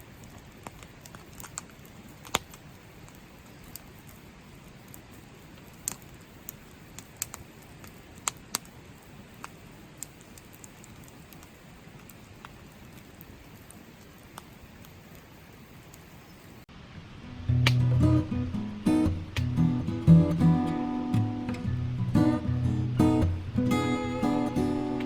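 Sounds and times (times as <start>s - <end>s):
raindrops pattering and ticking: 0.0s - 15.3s, 16.8s - 25.0s
rain falling: 0.0s - 25.0s.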